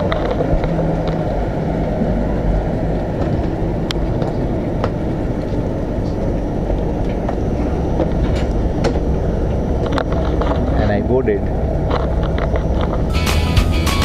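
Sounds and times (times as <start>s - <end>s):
train rumbling on rails: 0.0s - 13.1s.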